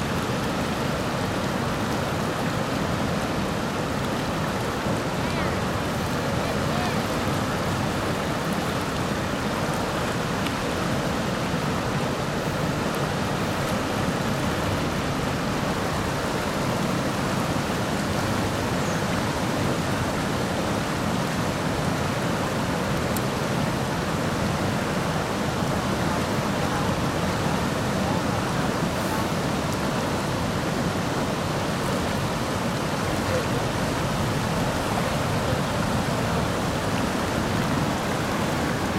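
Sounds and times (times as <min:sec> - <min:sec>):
water rushing over dam spillway: 0:00.0 - 0:38.9.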